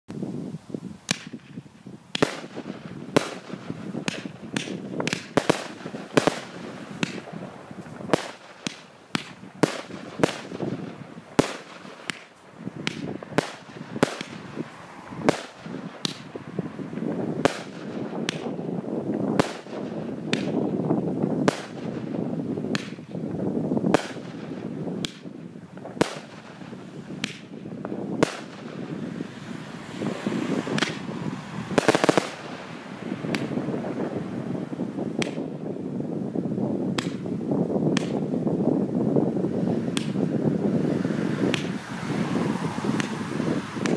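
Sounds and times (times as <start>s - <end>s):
continuous noisy rush: 0.1s - 43.9s
firework bangs: 1.1s - 35.8s, 36.8s - 38.4s, 39.8s - 43.9s.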